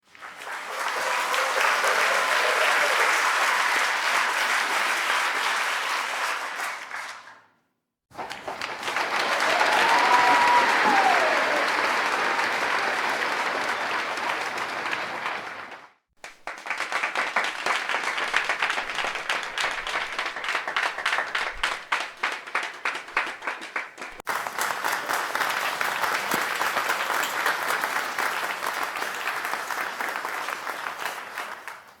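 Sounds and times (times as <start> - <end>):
audience applause: 0.1 - 7.4, 8.1 - 32.0.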